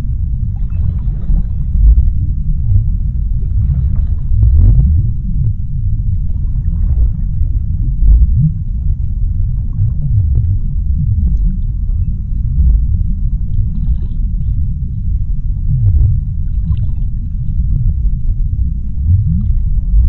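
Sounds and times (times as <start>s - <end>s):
underwater deep rumble: 0.0s - 20.0s.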